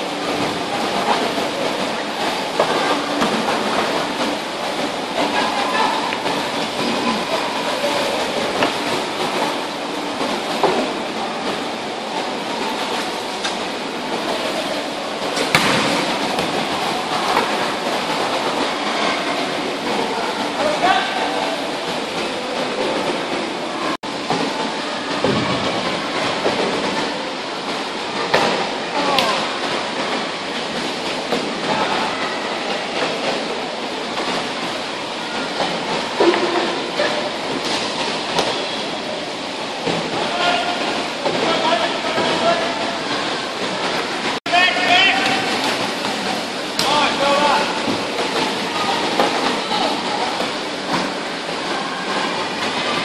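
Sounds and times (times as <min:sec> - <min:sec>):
kayak paddles splashing water: 0:00.0 - 0:53.0.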